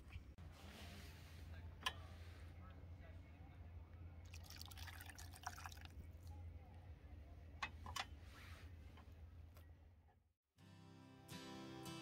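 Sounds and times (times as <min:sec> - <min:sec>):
faint low hum: 0:00.0 - 0:10.3.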